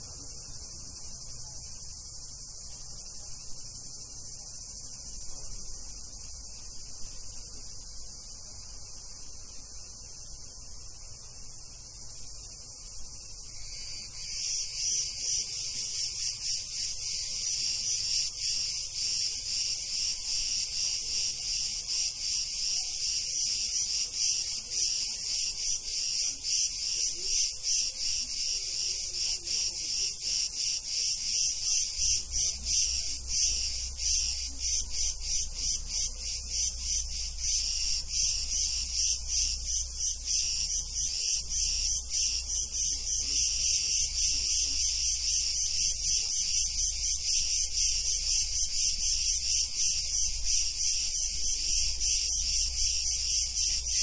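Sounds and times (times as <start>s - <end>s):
cicadas buzzing: 0.0s - 54.0s
pulsing cicada chorus: 0.0s - 54.0s.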